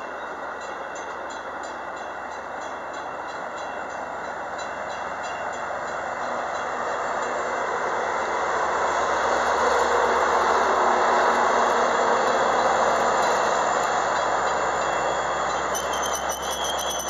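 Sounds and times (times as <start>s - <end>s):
wheels rumbling on rails: 0.2s - 17.0s.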